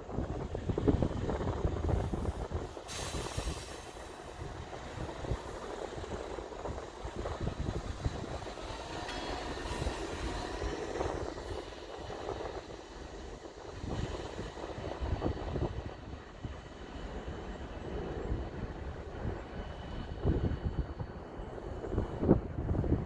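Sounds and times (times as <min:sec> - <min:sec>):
rail vehicle rumbling on tracks: 0:00.0 - 0:23.0.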